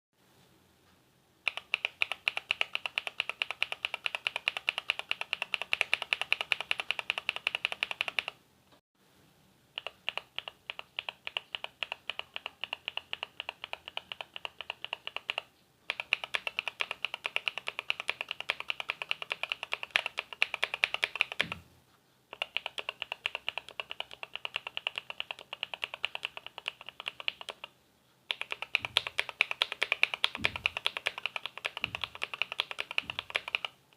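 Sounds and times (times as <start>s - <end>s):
mechanical keyboard typing: 1.4s - 8.4s, 9.8s - 21.6s, 22.3s - 33.8s.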